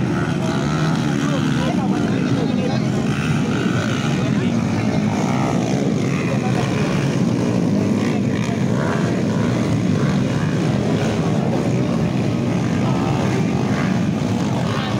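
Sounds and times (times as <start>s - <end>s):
dirt bike engines revving: 0.0s - 14.9s.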